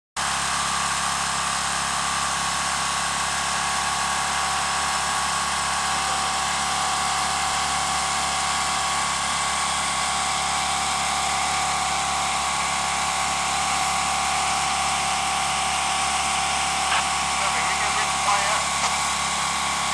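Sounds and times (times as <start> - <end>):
machine drone: 3.0 - 19.9.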